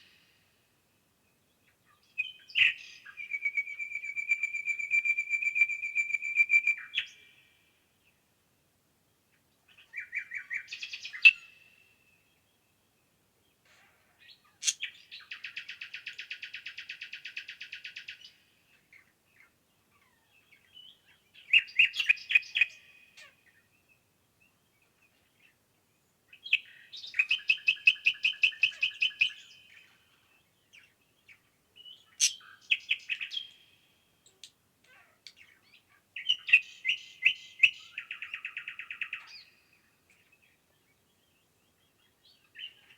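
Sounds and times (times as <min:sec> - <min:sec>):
songbirds singing trills: 0:01.3 - 0:08.2, 0:09.1 - 0:42.9.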